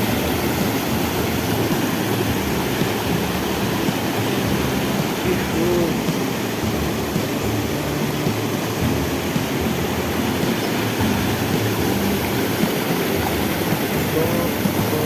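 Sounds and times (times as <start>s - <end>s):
small waterfall splashing: 0.0s - 15.0s.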